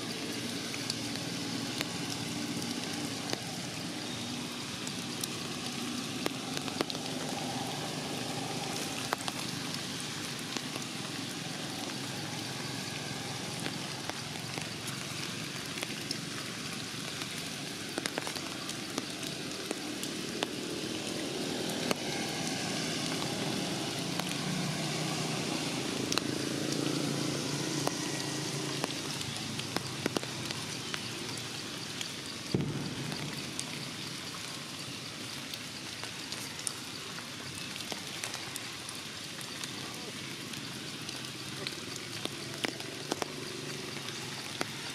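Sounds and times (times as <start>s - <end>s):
rain on leaves: 0.0s - 44.9s.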